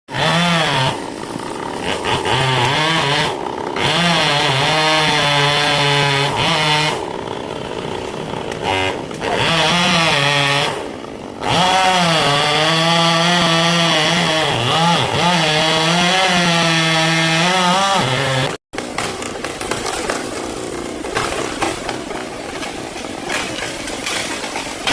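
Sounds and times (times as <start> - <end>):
chainsaw cutting wood: 0.1 - 24.9.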